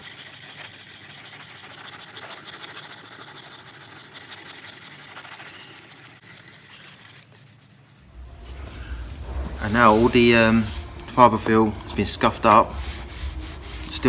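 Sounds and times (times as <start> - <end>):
sanding block rubbing on filler: 0.0 - 14.0.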